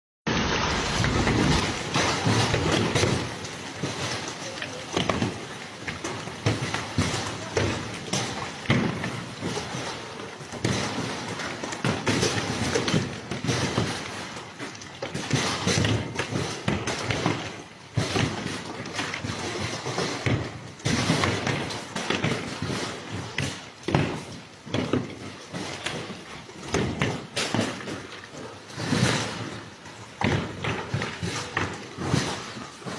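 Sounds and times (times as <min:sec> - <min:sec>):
hailstones clattering on hard surfaces: 0:00.6 - 0:28.0.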